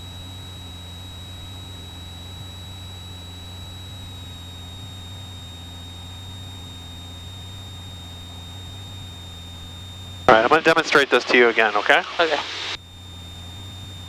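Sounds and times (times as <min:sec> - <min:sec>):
propeller plane engine droning: 0:00.0 - 0:14.0
thin high-pitched whine: 0:00.1 - 0:14.0.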